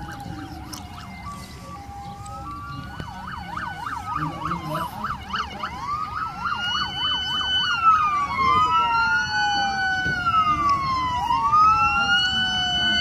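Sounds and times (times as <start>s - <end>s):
siren fast yelp: 0.0s - 13.0s
siren rising and falling wails: 0.0s - 13.0s.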